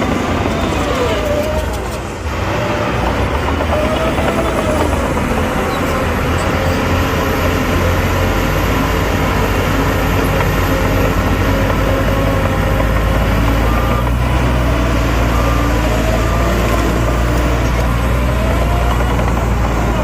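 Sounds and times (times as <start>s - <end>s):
heavy diesel engines running: 0.0s - 20.0s.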